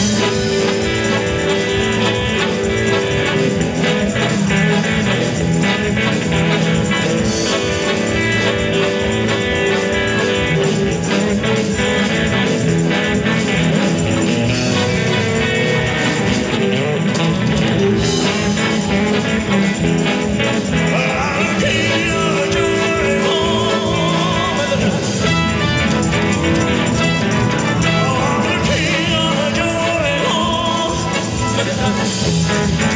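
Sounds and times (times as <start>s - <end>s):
bass guitar: 0.0s - 32.9s
drums: 0.0s - 32.9s
electric guitars: 0.0s - 32.9s
keyboards: 0.0s - 32.9s.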